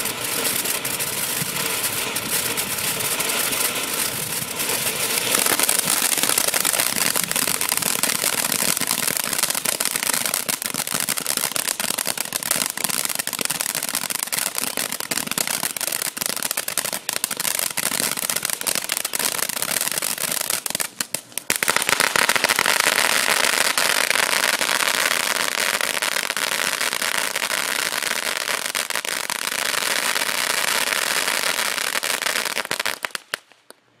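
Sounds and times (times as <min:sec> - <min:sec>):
firework fountain hissing and crackling: 0:00.0 - 0:33.8.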